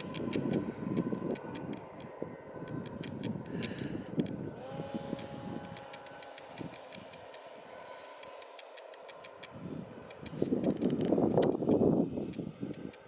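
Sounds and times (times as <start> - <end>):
electric motor and propeller whine: 0.0 - 13.0
wind buffeting microphone: 0.0 - 13.0.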